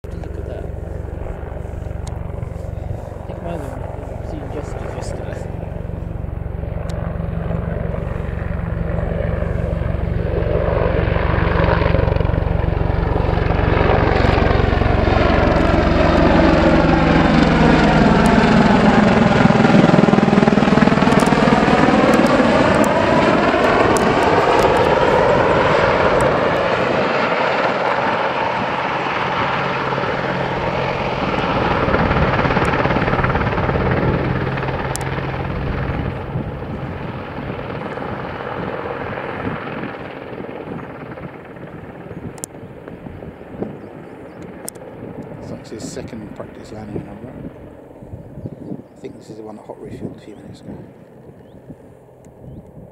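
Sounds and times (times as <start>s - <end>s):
helicopter flying past: 0.0s - 52.9s.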